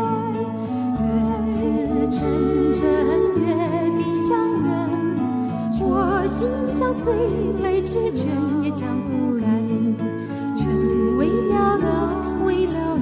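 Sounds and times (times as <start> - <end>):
woman singing pop ballad: 0.0 - 13.0.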